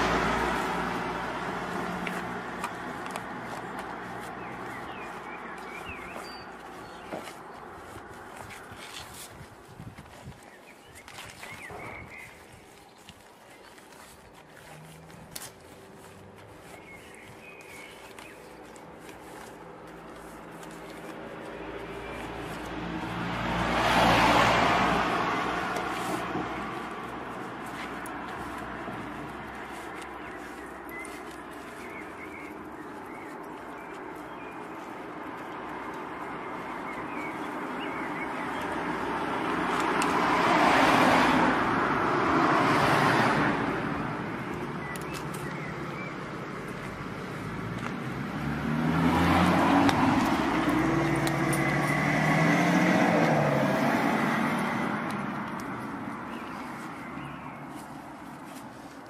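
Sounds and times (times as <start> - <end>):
vehicles driving past: 0.0 - 59.0.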